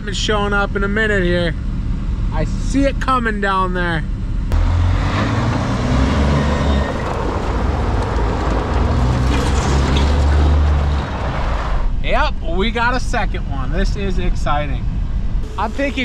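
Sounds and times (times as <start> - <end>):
road and wind noise: 0.0 - 16.0
truck diesel engine rumbling: 0.0 - 16.0.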